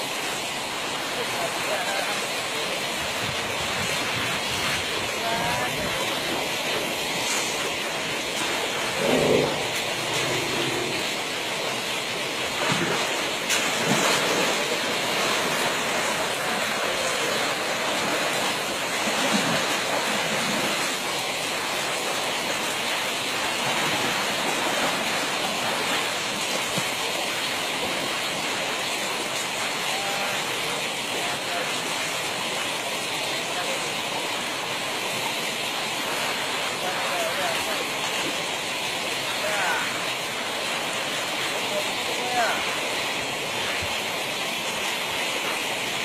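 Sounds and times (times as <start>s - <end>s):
water rushing through a ditch: 0.0s - 46.0s.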